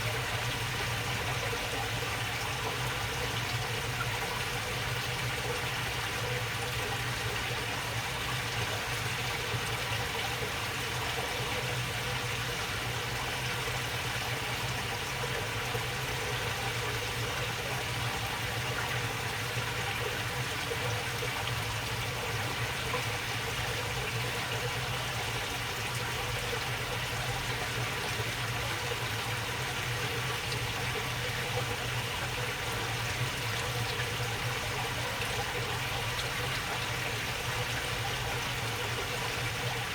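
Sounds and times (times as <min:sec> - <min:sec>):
water babbling in a channel: 0:00.0 - 0:39.9.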